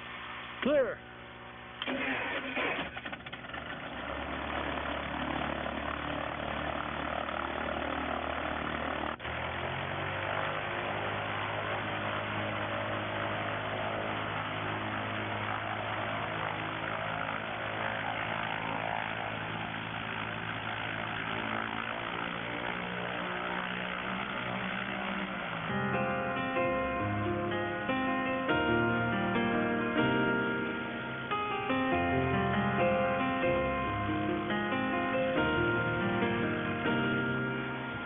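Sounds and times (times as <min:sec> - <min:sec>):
propeller aircraft engine running: 0:00.0 - 0:38.0.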